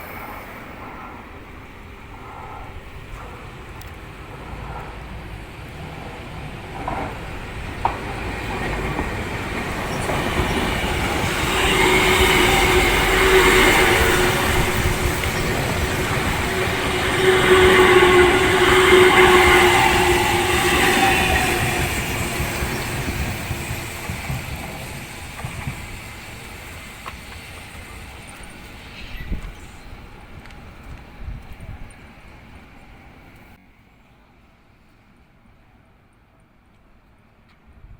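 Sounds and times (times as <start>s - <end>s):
electric train whining: 0.0s - 33.6s.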